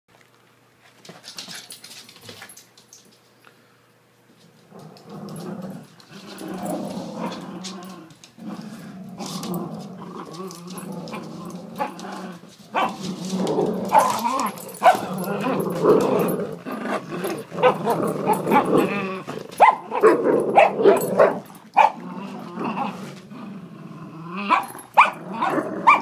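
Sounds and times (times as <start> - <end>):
dogs growling in play: 4.4 - 26.0.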